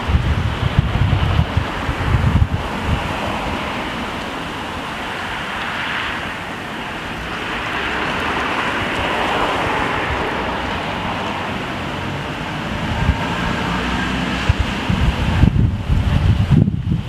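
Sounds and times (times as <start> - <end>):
breeze through trees: 0.0 - 17.0
traffic noise: 0.0 - 17.0
wind buffeting microphone: 0.0 - 17.0.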